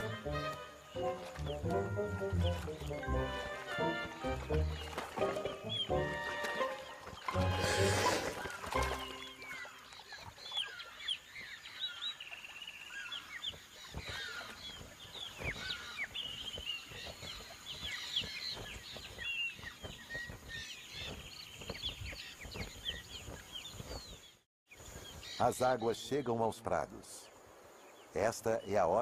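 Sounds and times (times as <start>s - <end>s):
wild birds chirping and trilling: 0.0s - 29.0s.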